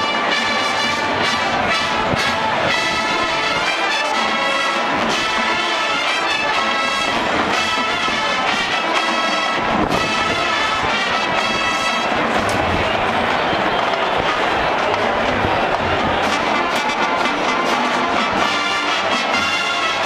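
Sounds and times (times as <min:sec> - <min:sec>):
marching band brass: 0:00.0 - 0:20.0
marching drums: 0:00.0 - 0:20.0.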